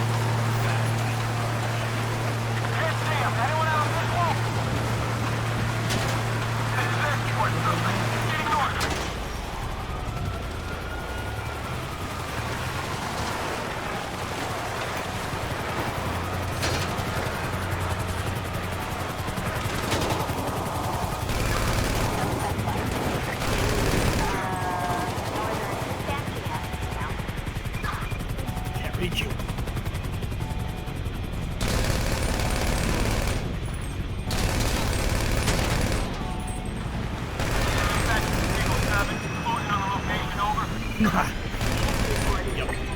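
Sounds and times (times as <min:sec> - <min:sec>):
video game vehicle engine running: 0:00.0 - 0:42.9.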